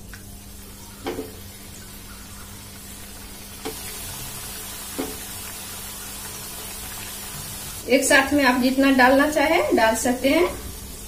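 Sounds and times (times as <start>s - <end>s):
dough sizzling in oil: 0.0s - 11.0s.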